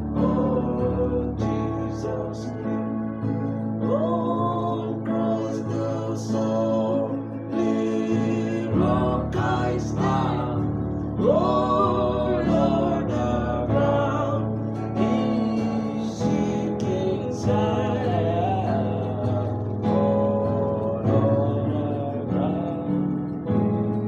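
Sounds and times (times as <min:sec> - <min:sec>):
instrumental accompaniment: 0:00.0 - 0:24.0
solo voice singing a hymn: 0:00.0 - 0:24.0.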